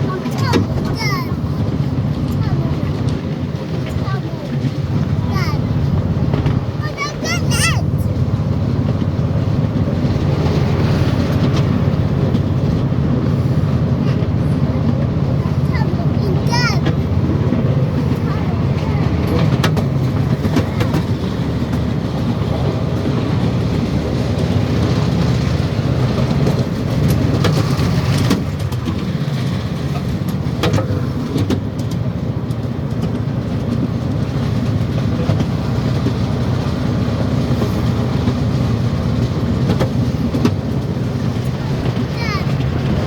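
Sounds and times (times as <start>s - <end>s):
train rumbling: 0.0s - 43.0s
wheels clicking: 0.0s - 43.0s.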